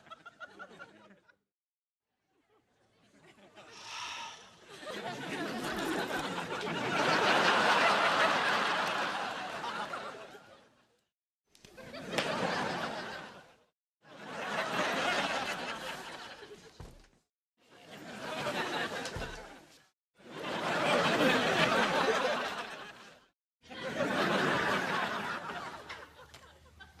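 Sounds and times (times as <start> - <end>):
studio audience laughter: 0.0 - 1.4, 4.6 - 11.0, 11.7 - 16.9, 17.7 - 27.0.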